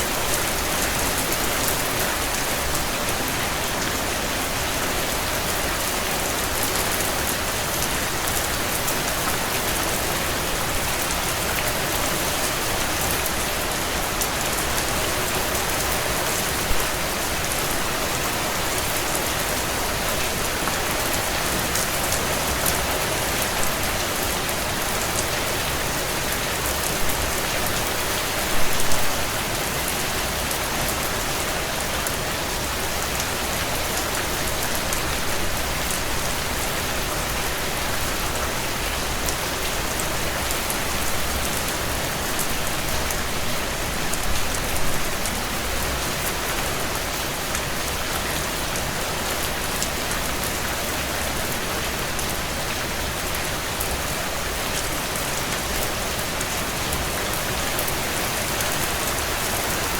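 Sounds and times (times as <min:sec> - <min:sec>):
heavy rain on window panes: 0:00.0 - 0:59.9.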